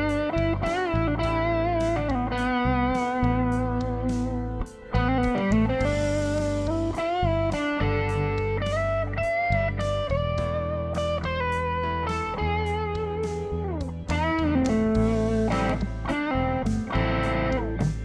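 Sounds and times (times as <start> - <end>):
electric guitar lead lines: 0.0 - 18.0.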